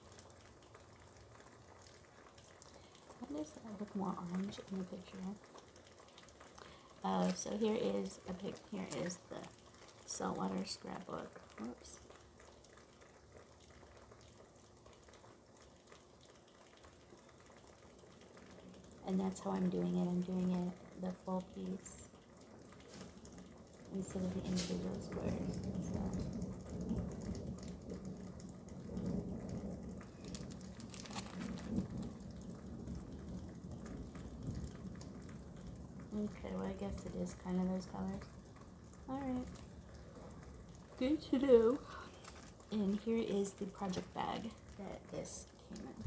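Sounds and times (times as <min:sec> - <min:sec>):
faint steady rain: 0:00.0 - 0:46.0.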